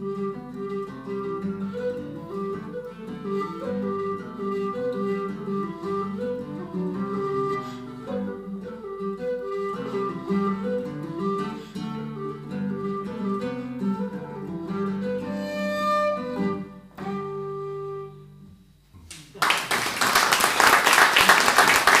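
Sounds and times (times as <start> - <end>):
whistle and guitar playing a jig: 0.0 - 18.8.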